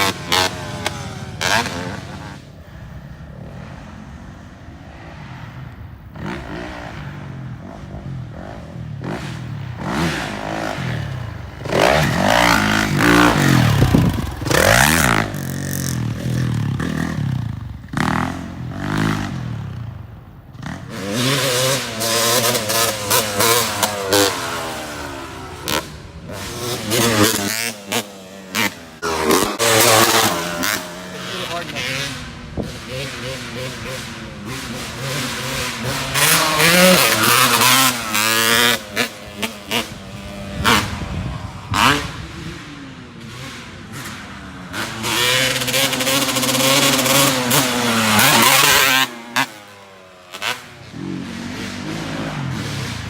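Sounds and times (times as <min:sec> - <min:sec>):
off-road engine revving: 0:00.0 - 0:53.0.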